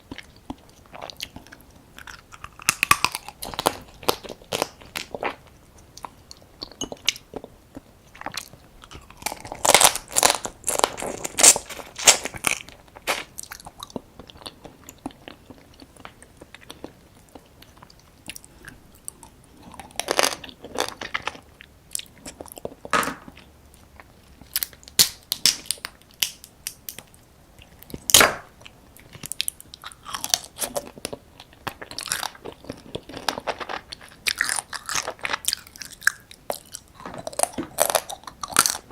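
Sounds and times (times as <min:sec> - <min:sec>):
crunching and chewing crab: 0:00.0 - 0:38.9.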